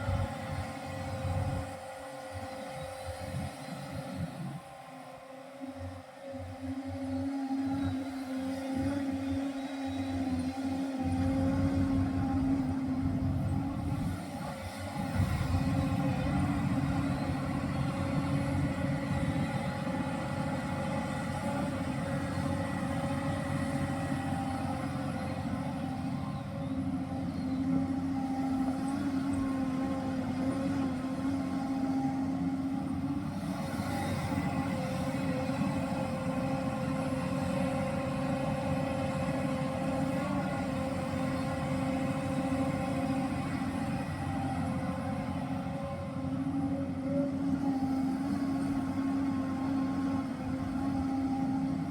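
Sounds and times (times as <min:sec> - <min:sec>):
excavator diesel engine rumbling: 0:00.0 - 0:51.9.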